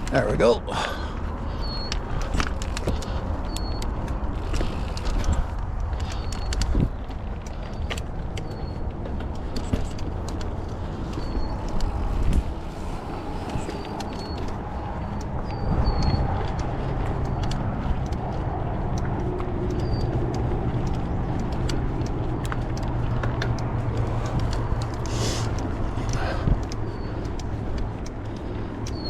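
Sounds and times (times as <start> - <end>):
bike rattling clicks: 0.0 - 29.0
bike tyre rumble: 0.0 - 29.0
wind noise: 0.0 - 29.0.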